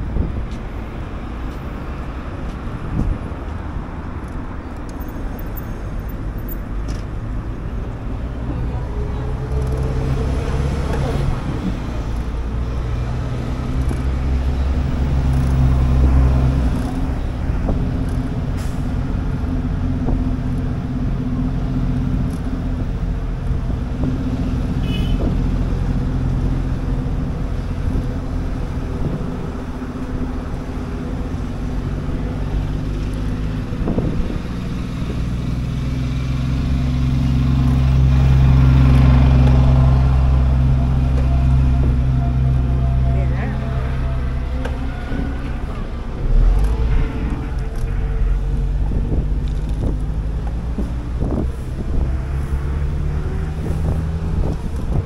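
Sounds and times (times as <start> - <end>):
road noise: 0.0 - 55.0
vehicle engines humming: 0.0 - 55.0.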